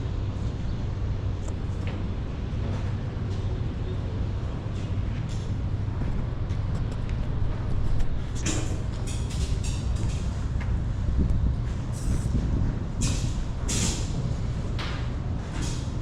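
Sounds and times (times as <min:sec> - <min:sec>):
ferry engines droning: 0:00.0 - 0:16.0.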